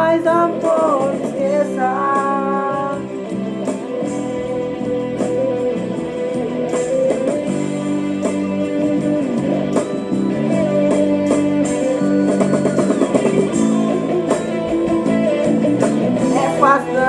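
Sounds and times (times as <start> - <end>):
band playing with guitar: 0.0 - 17.0.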